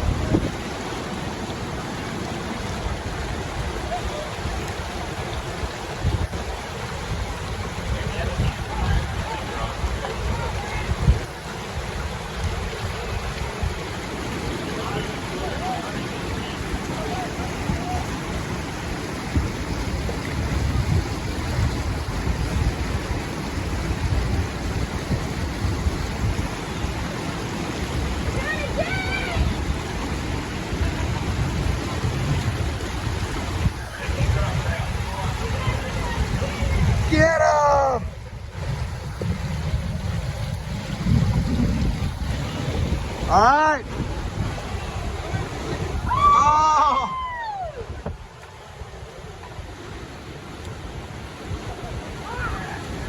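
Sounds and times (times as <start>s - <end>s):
river rapid roaring: 0.0s - 53.0s
whitewater rapids rushing: 0.0s - 53.0s
wind buffeting microphone: 0.0s - 53.0s.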